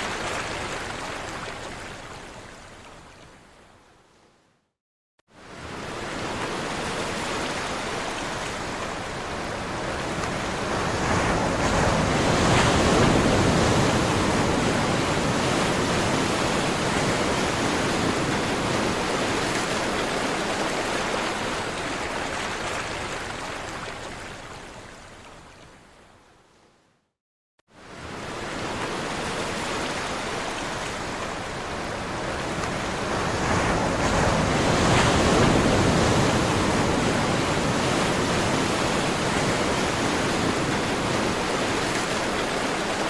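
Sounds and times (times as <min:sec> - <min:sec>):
ocean waves: 0:00.0 - 0:04.4, 0:05.3 - 0:26.7, 0:27.7 - 0:43.0.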